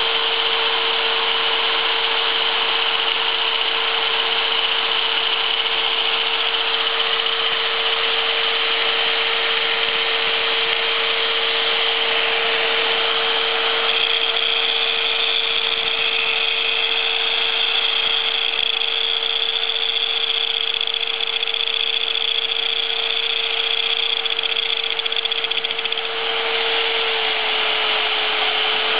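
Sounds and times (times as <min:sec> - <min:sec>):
angle grinder grinding metal: 0:00.0 - 0:28.9
motor whine: 0:00.0 - 0:28.9.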